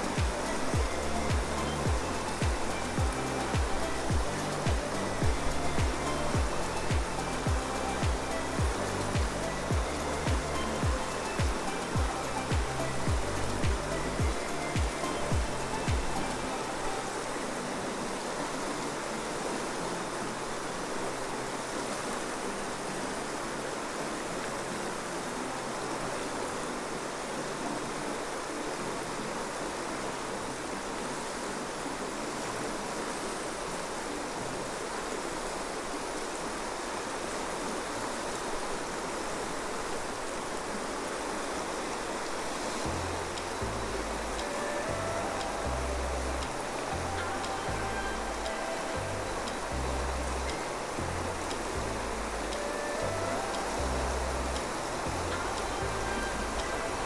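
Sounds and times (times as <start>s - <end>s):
river rushing over whitewater: 0.0s - 57.0s.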